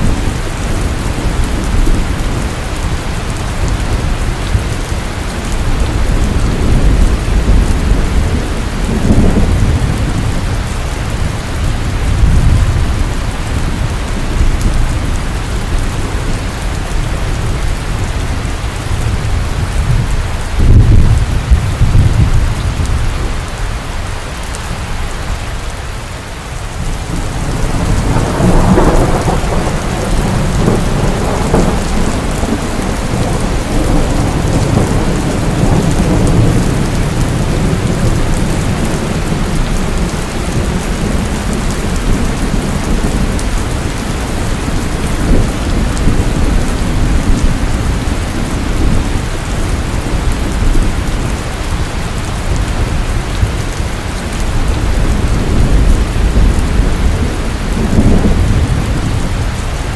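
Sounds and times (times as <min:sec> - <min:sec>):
rolling thunder rumble: 0:00.0 - 0:59.9
steady rain falling: 0:00.0 - 0:59.9.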